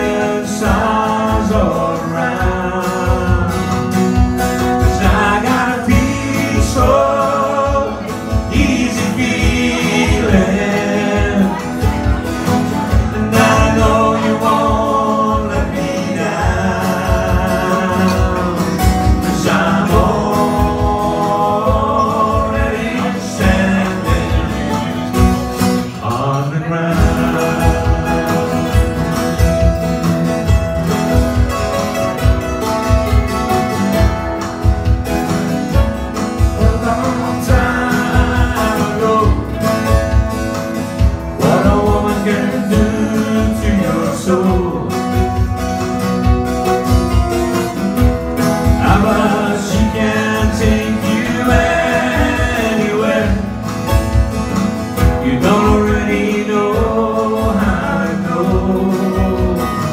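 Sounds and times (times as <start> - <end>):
man singing: 0.0 - 31.5, 33.9 - 59.9
picked string instrument: 0.0 - 59.9
strummed acoustic guitar: 0.0 - 59.9.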